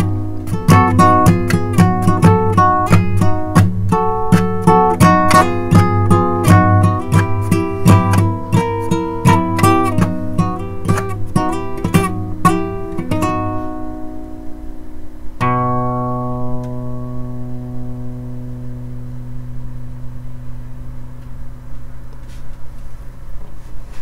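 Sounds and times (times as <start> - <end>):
guitar chord ringing out: 0.0 - 22.4
guitar strumming: 0.0 - 23.0.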